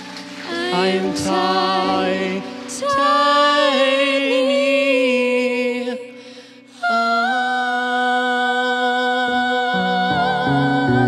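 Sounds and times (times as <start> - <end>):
man and woman singing: 0.3 - 11.0.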